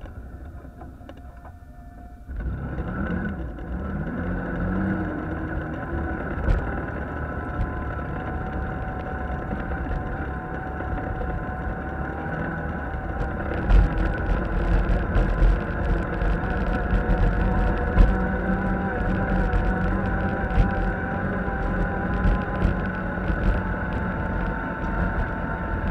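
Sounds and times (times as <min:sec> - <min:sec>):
vehicle engine running with whine: 0:00.0 - 0:25.9.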